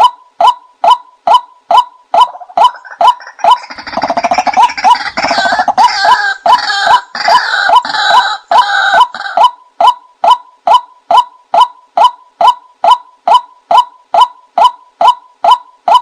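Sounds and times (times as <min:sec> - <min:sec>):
bird calling and clucking: 0:00.0 - 0:16.0.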